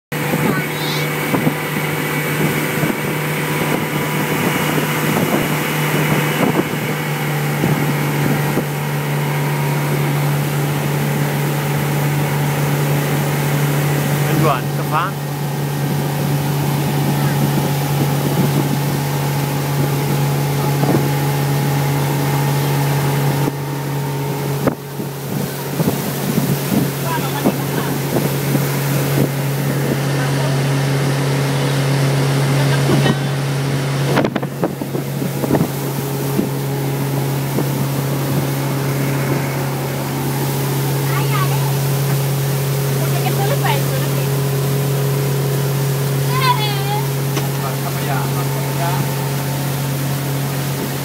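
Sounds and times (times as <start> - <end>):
wind on microphone: 0.1 - 43.4, 48.6 - 51.0
motorboat engine running: 0.1 - 51.0.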